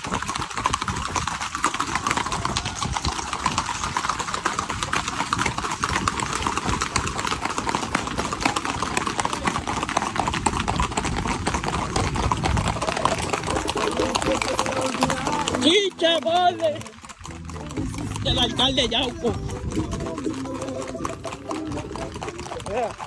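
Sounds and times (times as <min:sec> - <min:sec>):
hooves clattering on pavement: 0:00.0 - 0:23.0.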